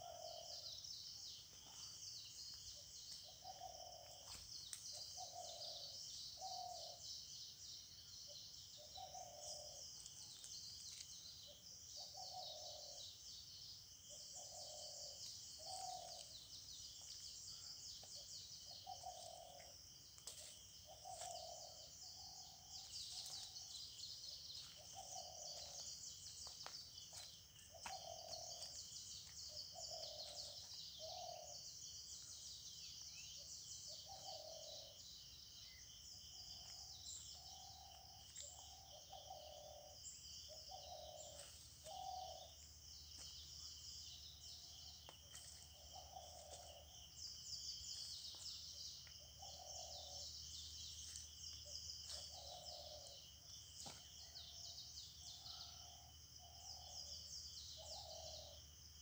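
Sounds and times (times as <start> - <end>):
birds chirping and twittering: 0.0 - 59.0.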